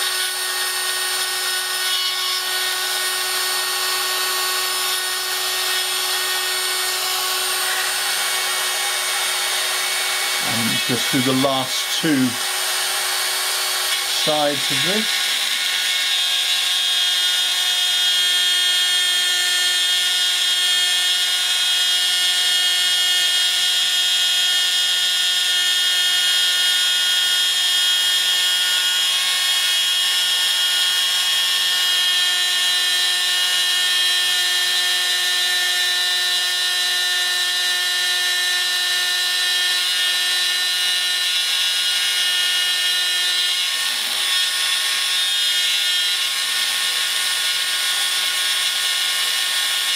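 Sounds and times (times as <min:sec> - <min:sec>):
rotary drill whining while milling metal: 0:00.0 - 0:49.9.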